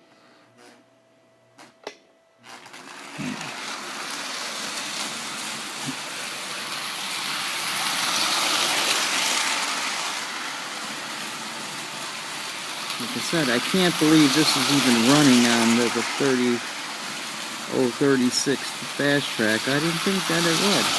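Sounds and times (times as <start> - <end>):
toy train whirring rumble: 2.4 - 20.9.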